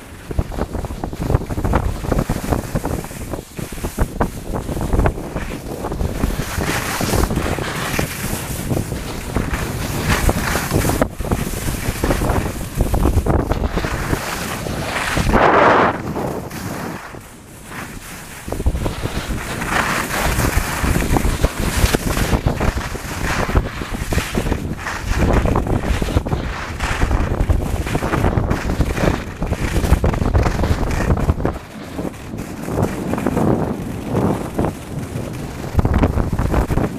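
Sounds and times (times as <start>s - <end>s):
skis carving snow: 0.0s - 36.9s
wind rushing over microphone: 0.0s - 36.9s.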